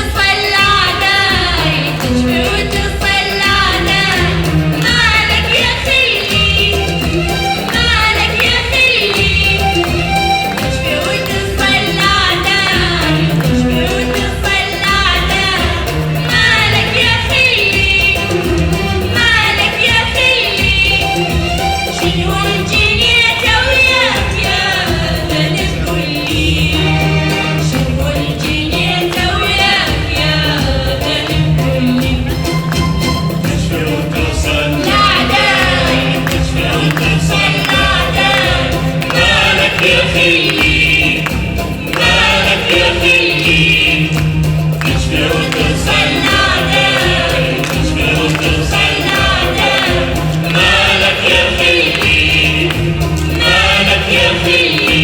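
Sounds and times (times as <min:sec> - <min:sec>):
group singing in chorus: 0:00.0 - 0:55.0
instruments playing: 0:00.0 - 0:55.0
percussion steady beat: 0:00.0 - 0:55.0
steady bass line: 0:00.0 - 0:55.0.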